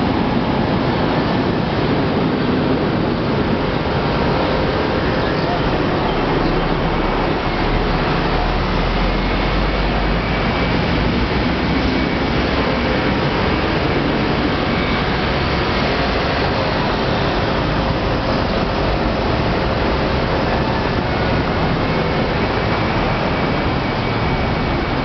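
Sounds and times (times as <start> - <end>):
loud rushing noise: 0.0 - 25.0
wavering low rumble: 0.0 - 25.0.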